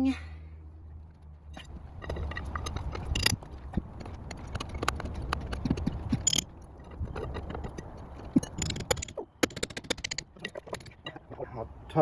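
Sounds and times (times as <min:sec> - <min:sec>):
metal track links clanking: 0:01.0 - 0:11.4.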